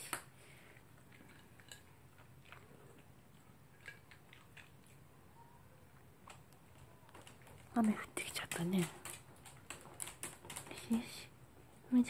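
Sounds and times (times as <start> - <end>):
dog chewing food crunches: 0.1 - 5.1, 6.0 - 11.0.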